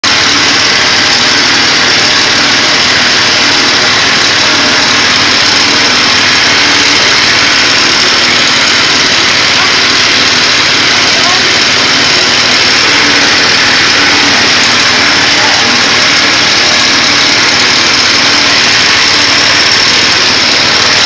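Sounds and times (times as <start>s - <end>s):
press machine running: 0.0s - 21.0s.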